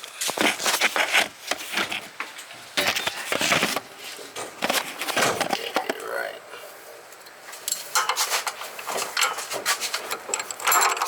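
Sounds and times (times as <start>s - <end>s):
hand tools scraping and knocking: 0.2s - 6.0s, 7.6s - 11.0s.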